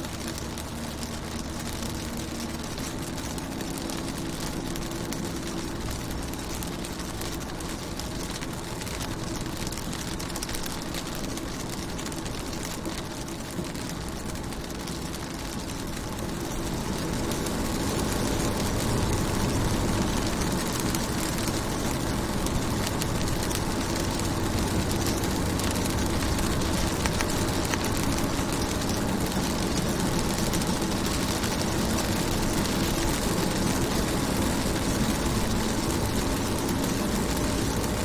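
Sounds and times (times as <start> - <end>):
rain on a car: 0.0 - 38.0.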